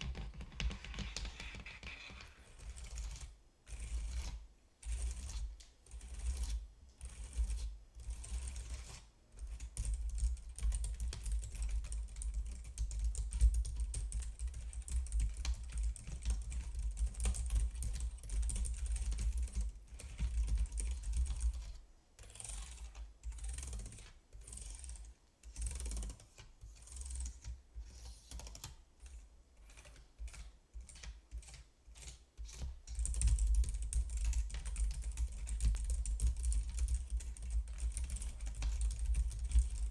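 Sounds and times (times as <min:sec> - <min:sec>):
typing on a keyboard: 0:00.0 - 0:03.3, 0:09.4 - 0:21.6, 0:22.7 - 0:27.6, 0:28.3 - 0:39.9.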